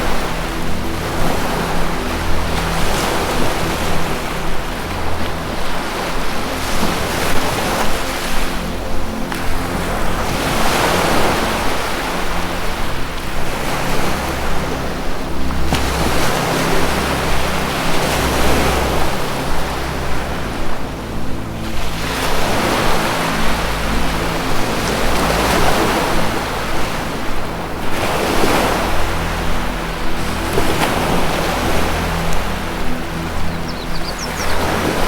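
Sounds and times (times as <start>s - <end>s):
low music drone: 0.0s - 35.0s
ocean waves washing: 0.0s - 35.0s.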